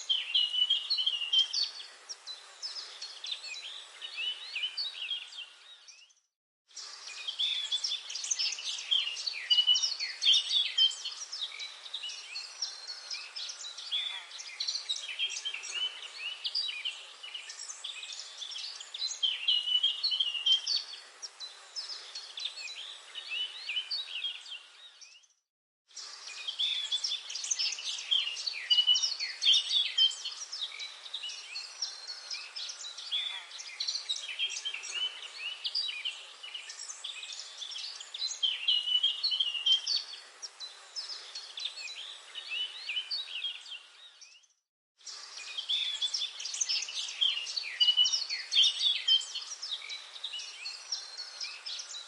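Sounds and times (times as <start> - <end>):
birds chirping and trilling: 0.0 - 52.0
faint hiss: 6.8 - 25.0, 25.9 - 44.1, 45.0 - 52.0.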